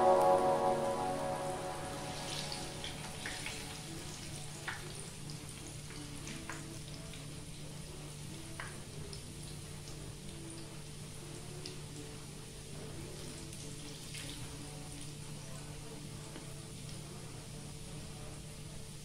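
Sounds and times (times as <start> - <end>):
batter deep-frying in oil: 2.9 - 19.0.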